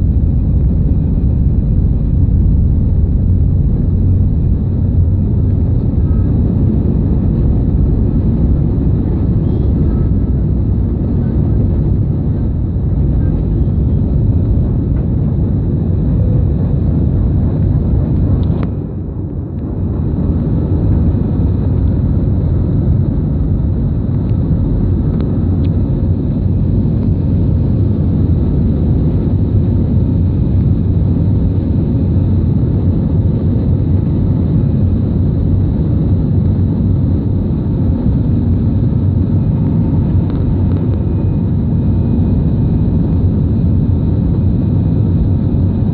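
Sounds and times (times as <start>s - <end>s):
airliner engines rumbling: 0.0s - 45.9s.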